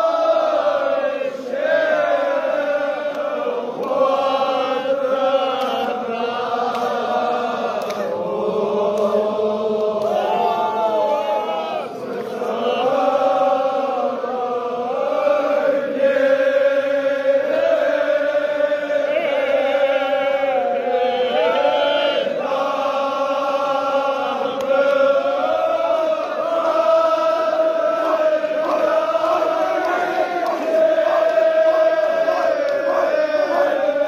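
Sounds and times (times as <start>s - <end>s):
men chanting together: 0.0s - 34.0s.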